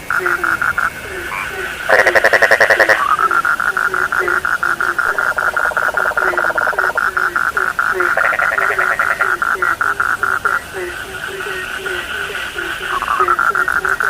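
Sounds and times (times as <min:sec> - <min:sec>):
frog rattling call: 0:00.0 - 0:14.0
low frog croaks: 0:00.0 - 0:14.0
frog fast pulsed call: 0:00.1 - 0:14.0.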